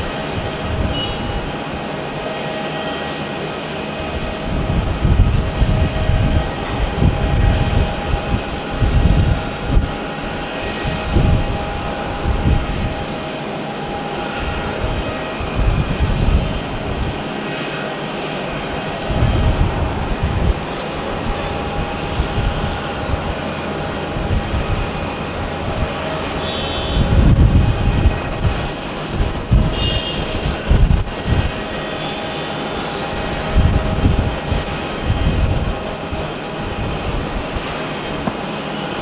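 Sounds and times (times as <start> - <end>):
jet engines running with whine: 0.0 - 39.0
low rumbling surges: 0.0 - 39.0.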